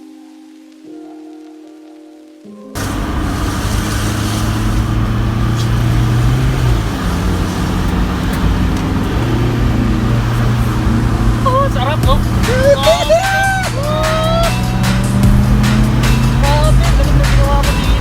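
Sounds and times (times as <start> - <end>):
car engine running: 2.8 - 18.0
road noise: 2.8 - 18.0.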